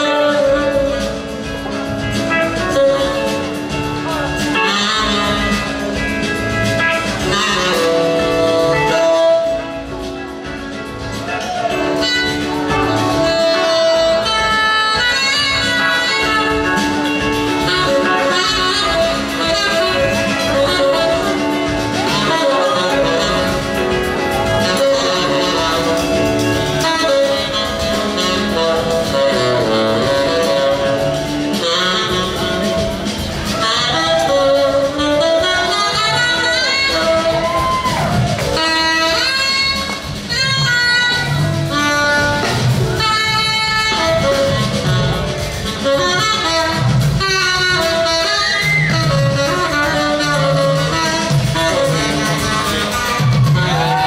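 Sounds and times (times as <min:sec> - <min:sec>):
live band playing: 0:00.0 - 0:54.0
saxophone solo: 0:00.0 - 0:54.0.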